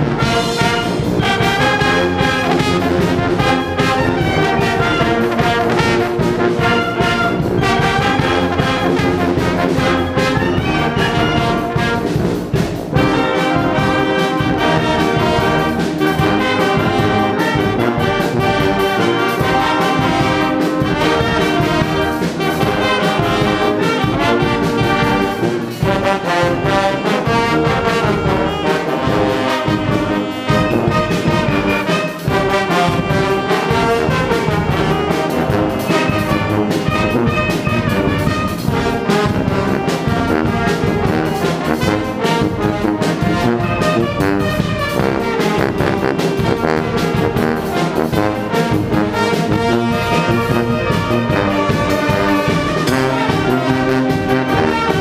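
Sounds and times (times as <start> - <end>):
brass band playing: 0.0 - 55.0
drum kit beat: 0.0 - 55.0.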